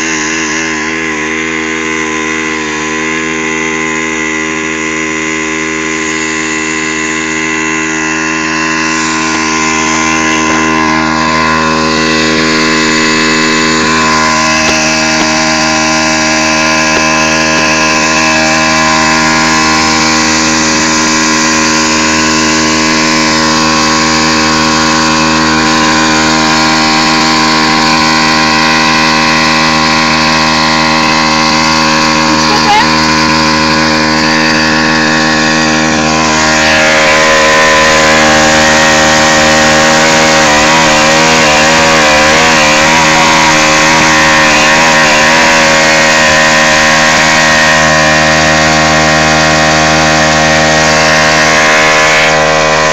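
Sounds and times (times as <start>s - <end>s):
small engine idling: 0.0s - 52.9s.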